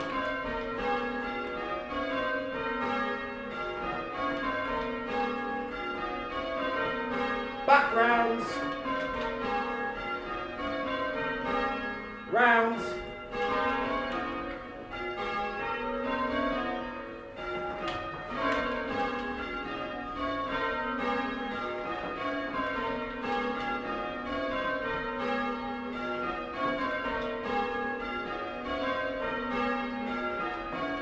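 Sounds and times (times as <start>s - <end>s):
church bells ringing in rounds: 0.0s - 31.0s.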